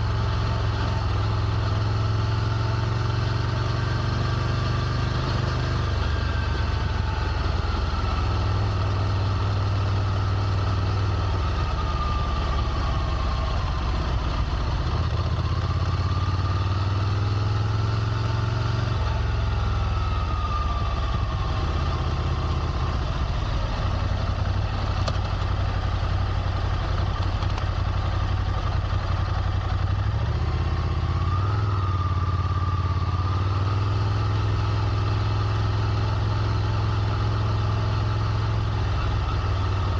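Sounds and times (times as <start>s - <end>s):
motorcycle engine idling: 4.7s - 39.9s.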